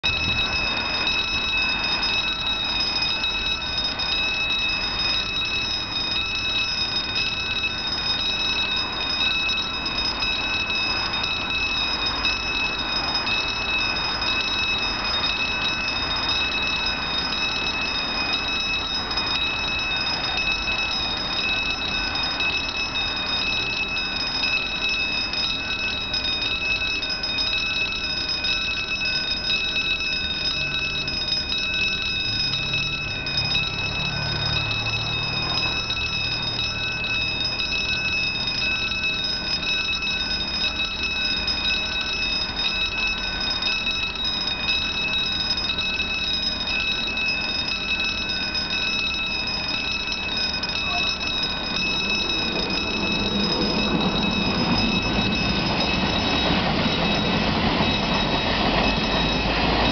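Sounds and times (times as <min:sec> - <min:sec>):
level crossing warning bell ringing: 0:00.0 - 0:59.9.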